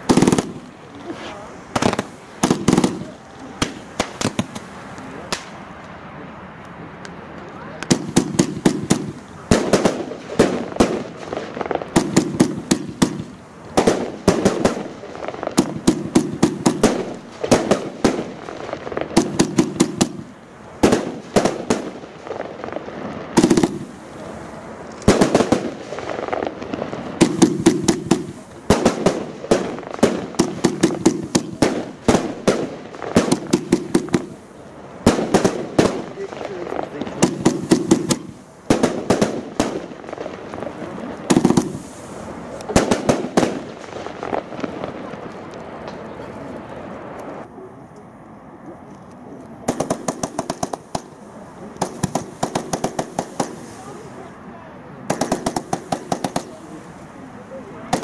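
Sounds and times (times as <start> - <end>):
fireworks firing shots and bangs: 0.0 - 5.6, 7.6 - 46.2, 49.6 - 54.3, 54.9 - 58.0.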